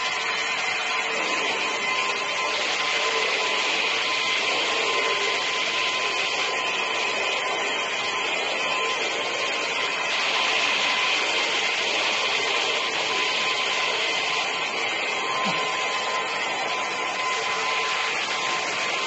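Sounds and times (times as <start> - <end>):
vacuum motor with suction hiss: 0.0 - 19.0.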